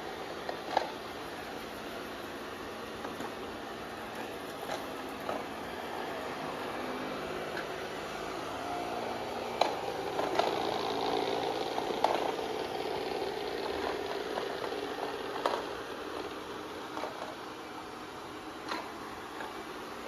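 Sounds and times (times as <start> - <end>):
robot vacuum humming: 0.0 - 20.0.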